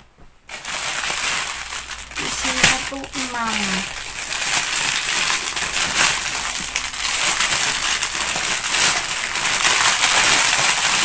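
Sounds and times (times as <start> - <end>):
plastic bags crinkling: 0.5 - 11.0.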